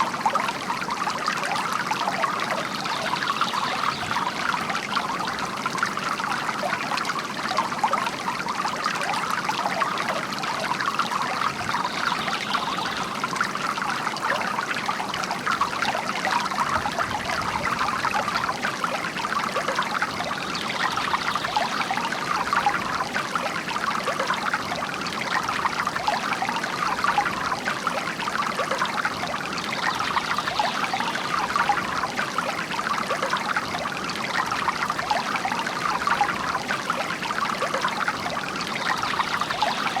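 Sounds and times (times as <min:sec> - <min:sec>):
water trickling and splashing: 0:00.0 - 0:40.0.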